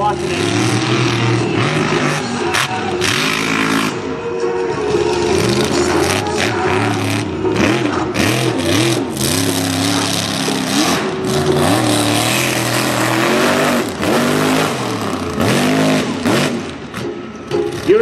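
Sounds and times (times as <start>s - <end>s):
truck engine revving hard: 0.0s - 4.2s, 5.1s - 17.1s.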